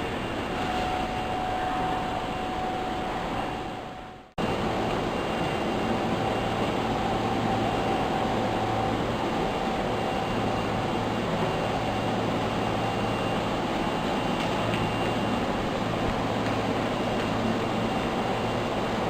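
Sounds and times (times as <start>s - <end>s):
constant tonal hum: 0.0s - 19.0s
subway train rumbling: 0.0s - 19.0s.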